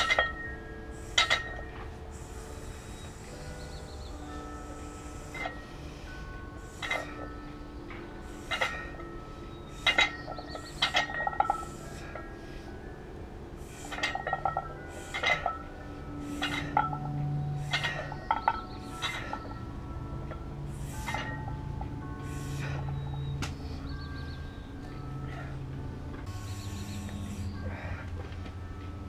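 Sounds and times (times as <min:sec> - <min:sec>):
dumbbells clinking: 0:00.0 - 0:29.0.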